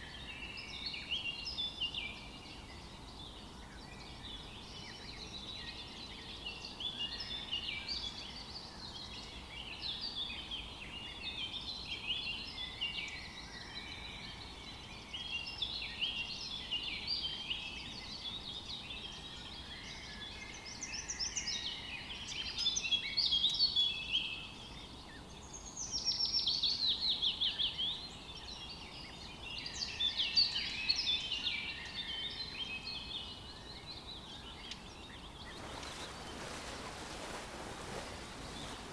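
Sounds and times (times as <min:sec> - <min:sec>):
songbirds chirping and warbling: 0:00.0 - 0:38.9.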